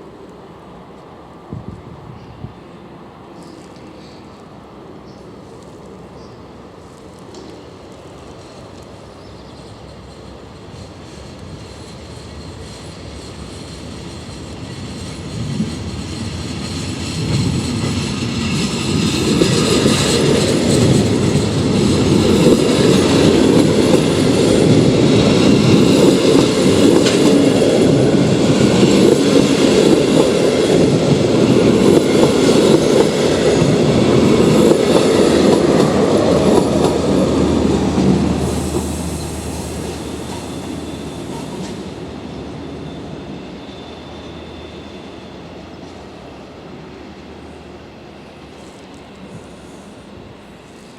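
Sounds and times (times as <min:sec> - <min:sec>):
passenger train running on rails: 0:00.0 - 0:50.9.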